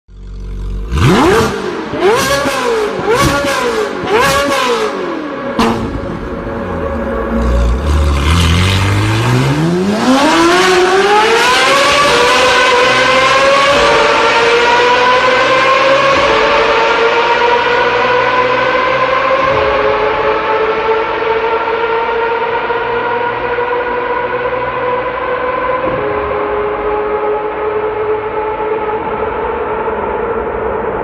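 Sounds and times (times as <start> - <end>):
car engine revving: 0.2 - 31.0.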